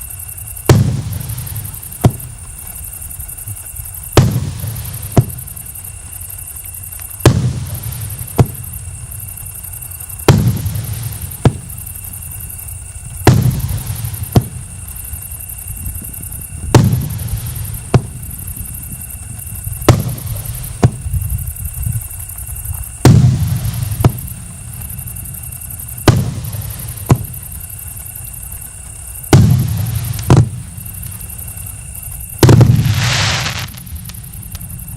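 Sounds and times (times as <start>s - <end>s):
crackling rumble: 0.0s - 34.9s
firework booms: 0.0s - 34.9s.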